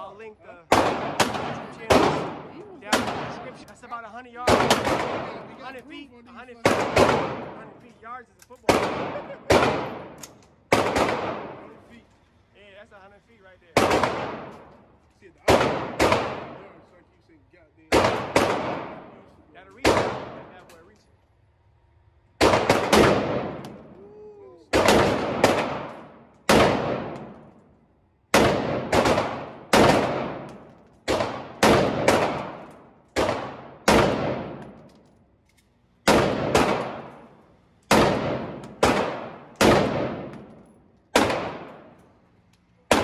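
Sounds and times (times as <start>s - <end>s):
rifle shots echoing indoors: 0.7s - 3.7s, 4.4s - 5.6s, 6.6s - 7.9s, 8.6s - 11.9s, 13.8s - 16.8s, 17.9s - 20.7s, 21.7s - 24.0s, 24.7s - 35.2s, 35.8s - 43.0s.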